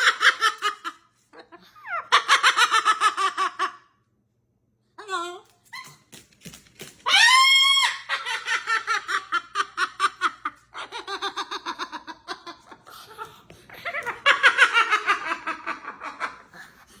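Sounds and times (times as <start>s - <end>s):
parrot imitating laughter: 0.0s - 4.0s, 7.0s - 17.0s.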